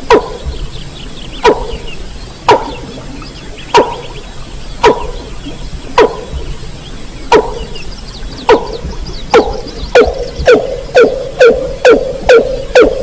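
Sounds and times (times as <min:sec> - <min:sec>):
rail bird calls: 0:00.0 - 0:13.0.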